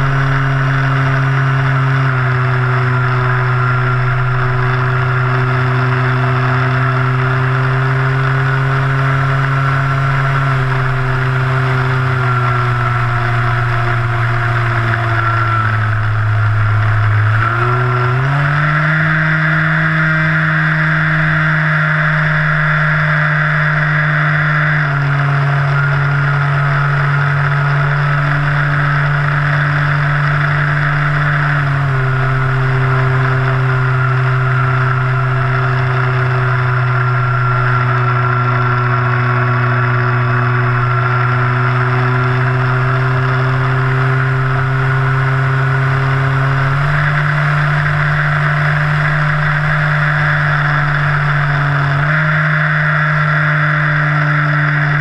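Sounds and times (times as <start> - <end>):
model plane electric motor buzzing: 0.0 - 55.0.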